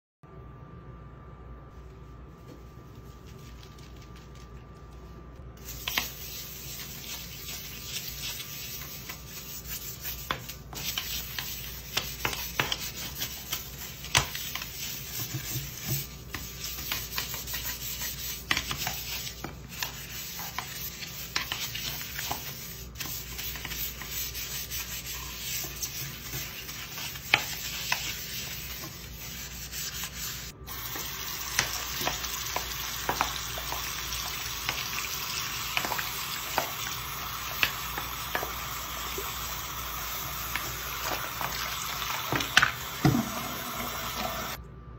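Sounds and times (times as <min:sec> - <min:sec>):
scrub brush scrubbing sink: 0:02.6 - 0:44.6.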